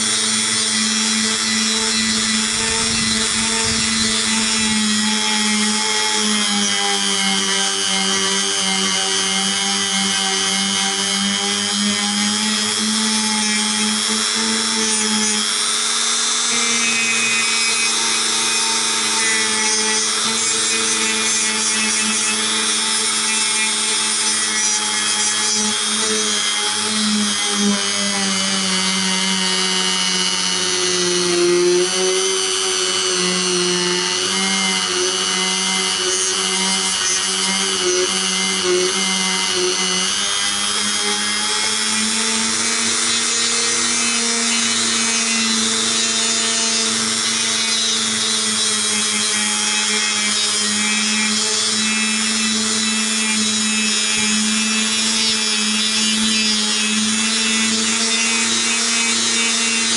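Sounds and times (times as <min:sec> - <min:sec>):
rotary tool running at high speed: 0:00.0 - 0:59.9.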